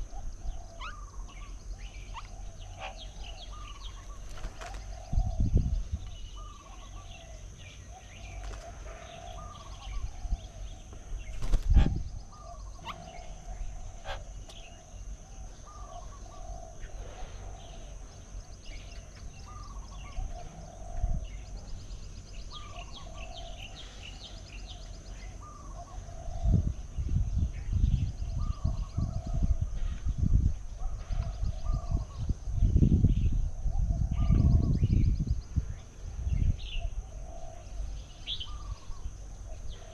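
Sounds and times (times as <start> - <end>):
high chirps of small birds: 0.0 - 39.9.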